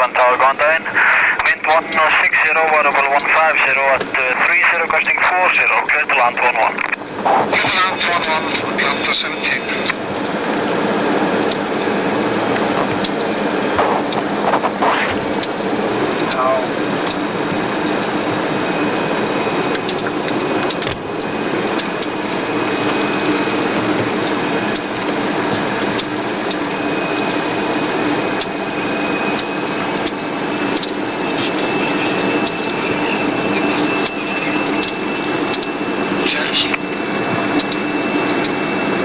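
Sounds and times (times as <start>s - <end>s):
jet engines humming: 0.0s - 39.0s.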